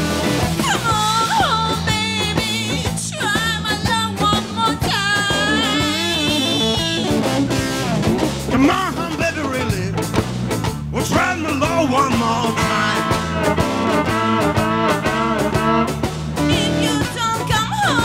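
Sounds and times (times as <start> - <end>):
electric guitar: 0.0 - 18.0.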